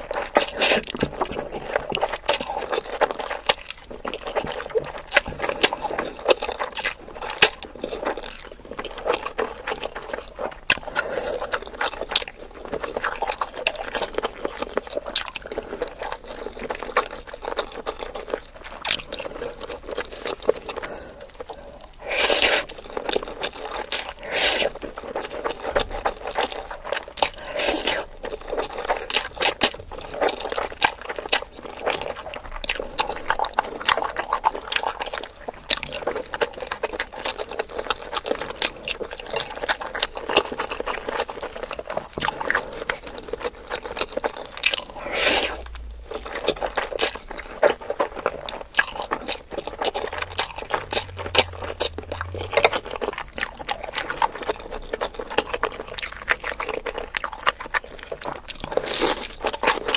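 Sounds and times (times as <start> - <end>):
chewing with crunches: 0.0 - 59.9
wet squishy mouth noises: 0.0 - 59.9.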